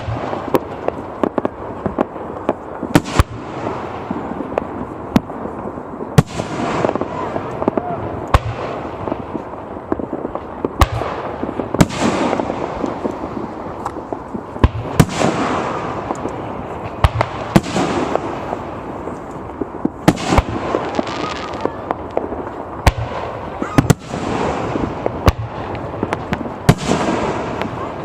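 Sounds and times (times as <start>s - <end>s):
fireworks bursting with sharp bangs: 0.0s - 28.0s.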